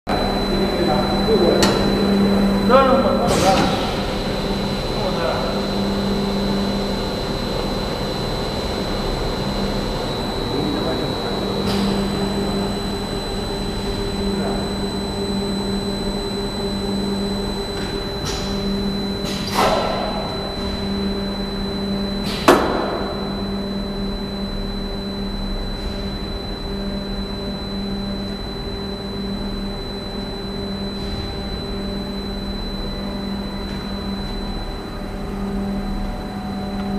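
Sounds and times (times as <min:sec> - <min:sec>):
high whine: 0:00.1 - 0:36.9
packing machine humming: 0:00.1 - 0:36.9.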